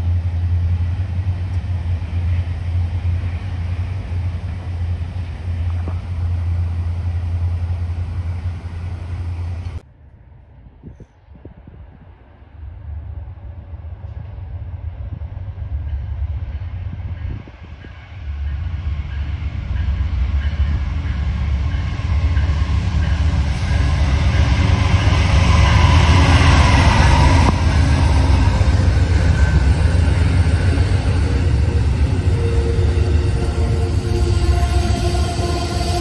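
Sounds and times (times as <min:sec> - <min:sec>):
train passing with low rumble: 0:00.0 - 0:36.0.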